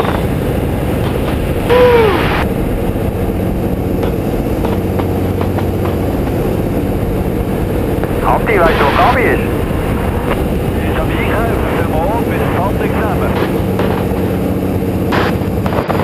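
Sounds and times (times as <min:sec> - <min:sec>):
plane engine drone: 0:00.0 - 0:16.0.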